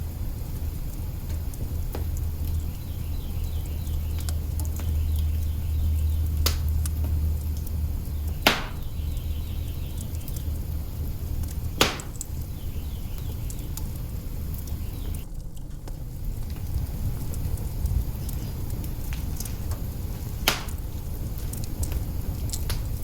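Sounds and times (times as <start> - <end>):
fire rumbling: 0.0 - 23.0
small fire ticks: 0.0 - 23.0
sharp crackling pops: 0.3 - 23.0.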